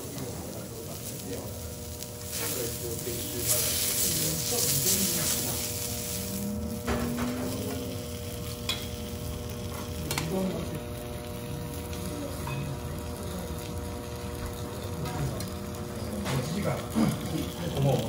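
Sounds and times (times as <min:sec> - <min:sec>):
steak sizzling on a griddle: 0:00.0 - 0:18.0.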